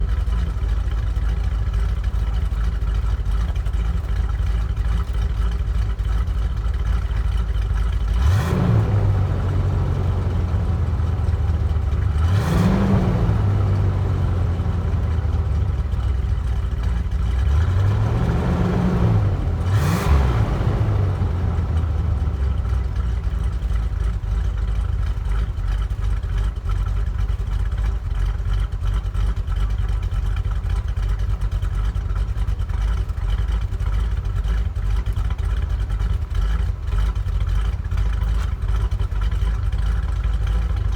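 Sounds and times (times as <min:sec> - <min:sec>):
engine idling and revving: 0:00.0 - 0:40.9.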